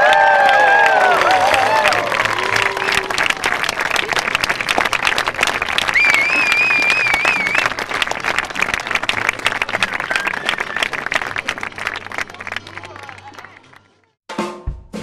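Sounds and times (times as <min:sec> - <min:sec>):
crowd applauding: 0:00.0 - 0:14.2.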